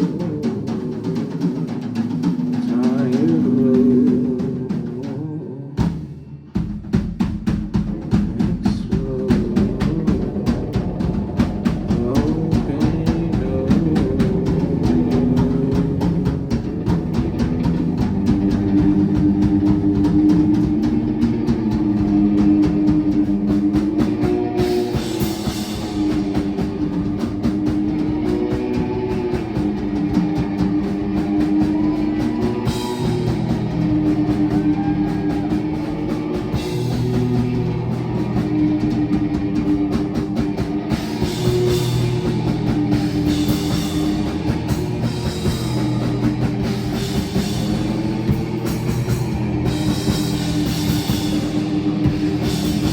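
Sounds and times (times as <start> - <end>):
rock band playing: 0.0 - 52.9.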